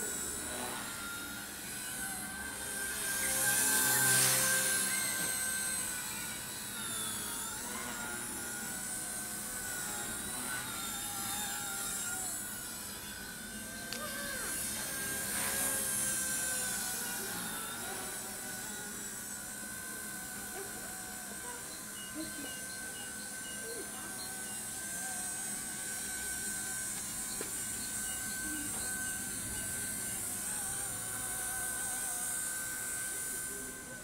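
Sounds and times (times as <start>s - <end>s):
rc helicopter rotor whine: 0.0s - 34.0s.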